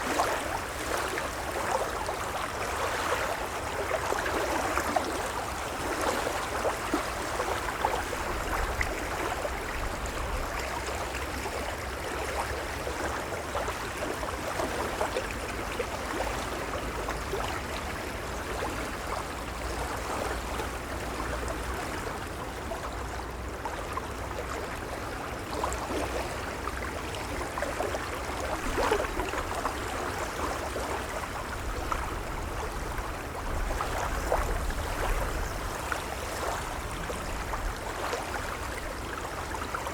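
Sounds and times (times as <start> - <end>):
waves lapping at water's edge: 0.0 - 39.9.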